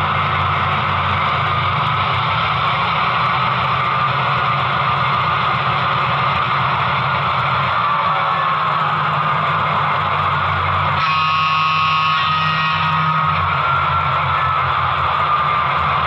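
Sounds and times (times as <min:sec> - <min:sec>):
diesel engine rumble from speakers: 0:00.0 - 0:16.0.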